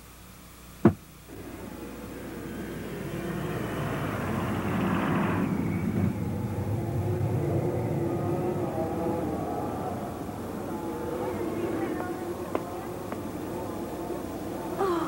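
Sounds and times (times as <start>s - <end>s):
jet engines: 1.3s - 14.8s.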